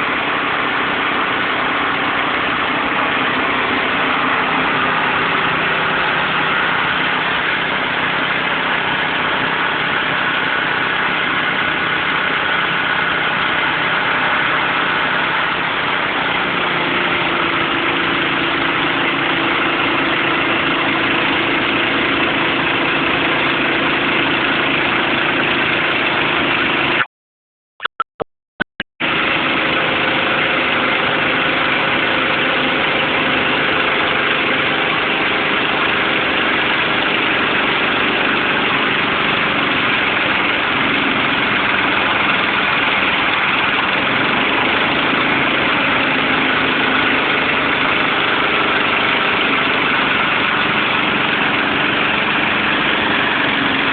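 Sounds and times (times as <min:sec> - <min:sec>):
sawmill engine running: 0:00.0 - 0:27.1, 0:29.0 - 0:53.9.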